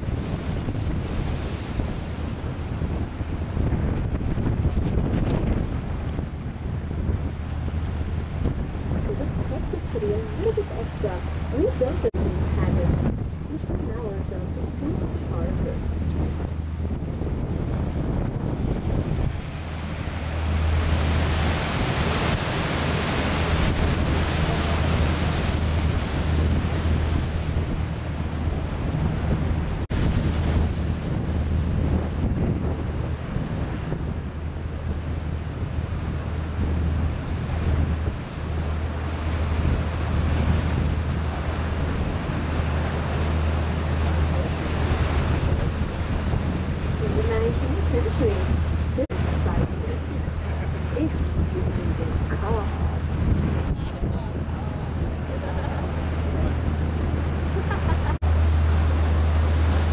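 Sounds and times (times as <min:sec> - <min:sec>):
boat engine humming: 0:00.0 - 0:59.9
water wash: 0:00.0 - 0:59.9
wind rushing on microphone: 0:00.0 - 0:59.9.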